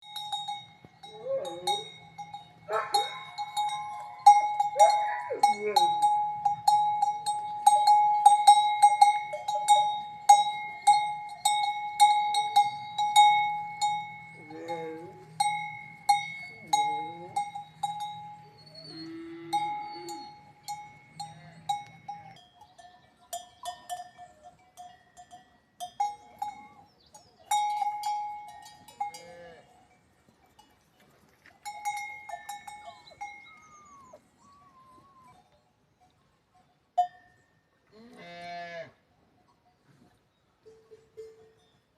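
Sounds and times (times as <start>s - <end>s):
cowbell clanking: 0.0s - 34.2s, 35.2s - 37.8s, 40.6s - 41.9s.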